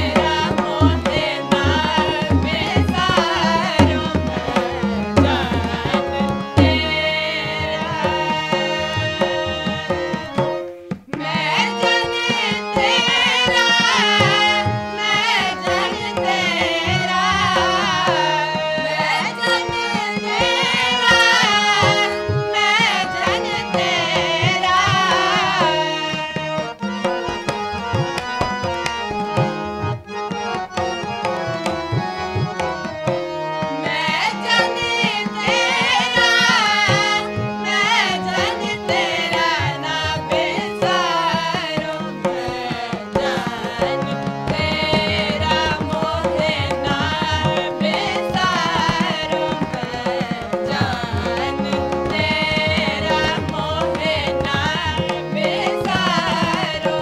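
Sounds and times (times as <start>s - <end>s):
harmonium chords: 0.0s - 57.0s
tabla rhythm: 0.0s - 57.0s
voices singing: 0.0s - 57.0s.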